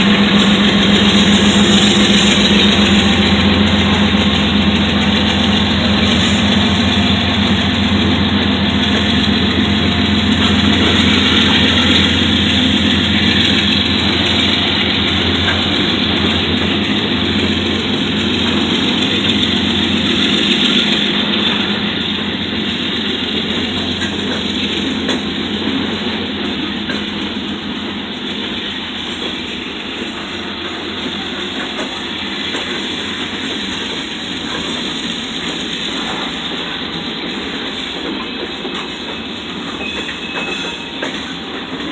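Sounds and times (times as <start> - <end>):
diesel locomotive engine drone: 0.0 - 41.9.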